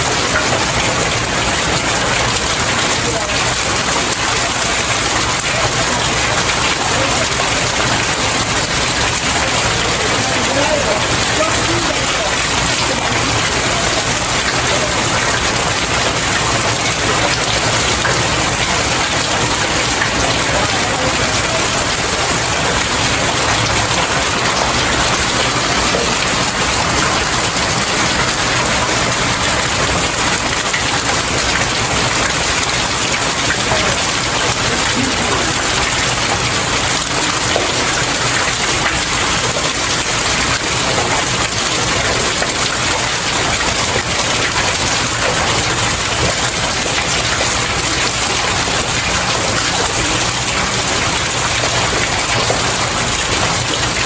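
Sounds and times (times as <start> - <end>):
heavy rain falling on stairs: 0.0 - 54.0.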